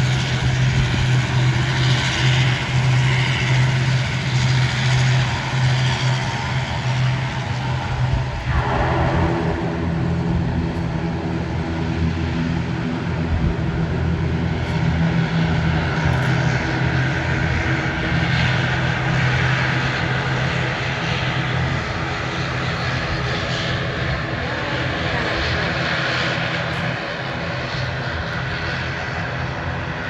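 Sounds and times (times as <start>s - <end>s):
airliner engines droning: 0.0s - 30.0s
high engine whine: 0.0s - 30.0s.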